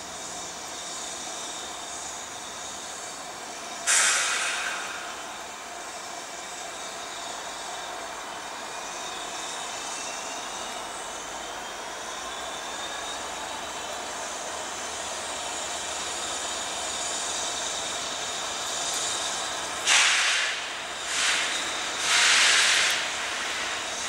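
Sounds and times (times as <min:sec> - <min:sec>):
locomotives humming and hissing: 0:00.0 - 0:24.0
steam exhaust blasts: 0:00.0 - 0:24.0.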